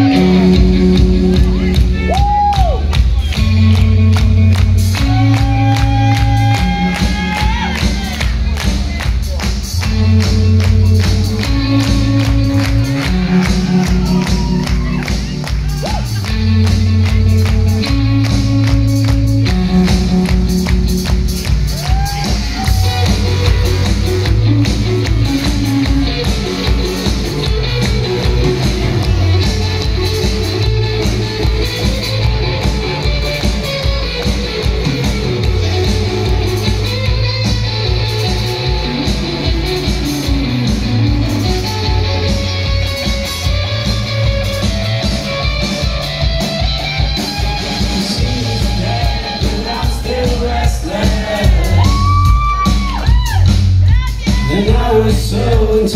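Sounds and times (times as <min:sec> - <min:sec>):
drums driving beat: 0:00.0 - 0:55.9
rock band playing live: 0:00.0 - 0:55.9.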